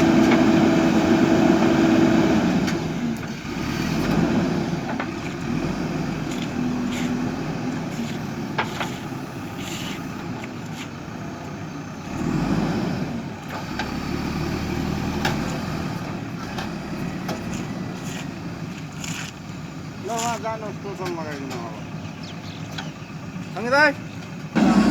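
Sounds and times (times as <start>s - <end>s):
diesel engine under load: 0.0s - 24.9s.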